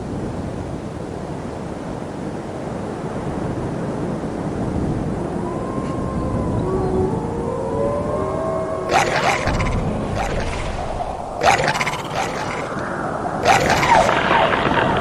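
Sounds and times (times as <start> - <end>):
gusty wind howling: 1.2 - 15.0.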